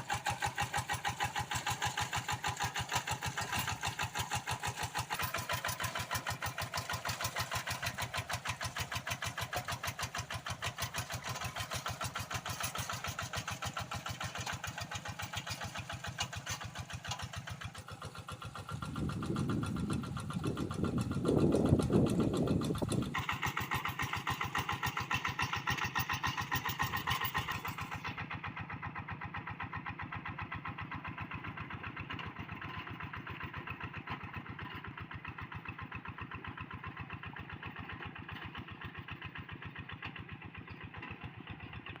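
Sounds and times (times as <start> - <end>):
diesel hand tractor engine running: 0.0 - 42.0.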